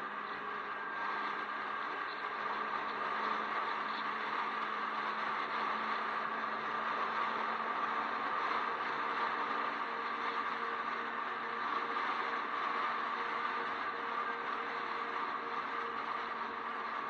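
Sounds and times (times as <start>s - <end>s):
drivetrain drone: 0.0s - 17.0s.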